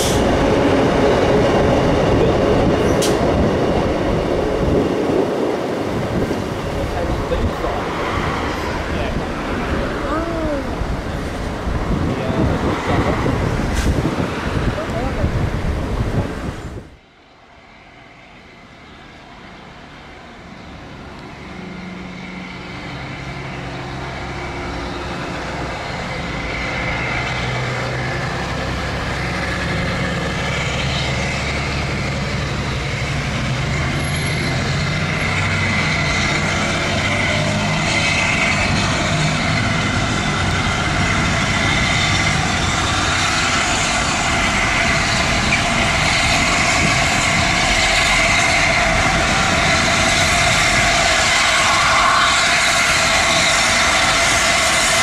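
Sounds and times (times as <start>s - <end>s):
train approaching: 0.0s - 55.0s.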